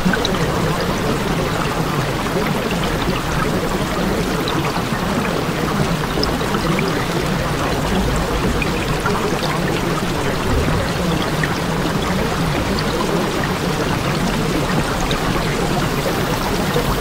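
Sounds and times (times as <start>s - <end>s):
running water: 0.0s - 17.0s
water droplets: 0.0s - 17.0s.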